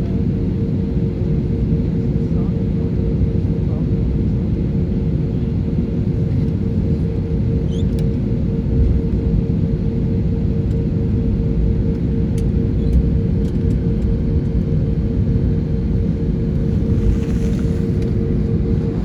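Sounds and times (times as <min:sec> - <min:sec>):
airliner cabin rumble: 0:00.0 - 0:19.0
constant hum: 0:00.0 - 0:19.0.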